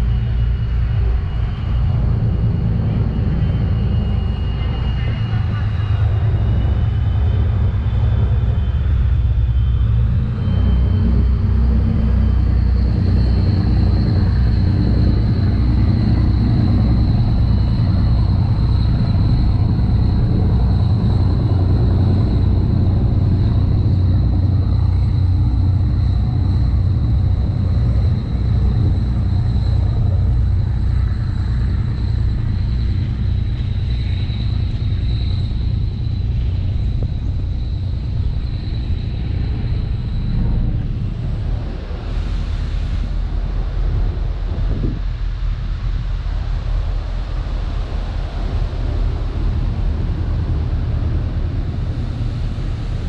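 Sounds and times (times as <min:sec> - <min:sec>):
high-pitched whine: 0:00.0 - 0:53.0
low engine rumble: 0:00.0 - 0:53.0.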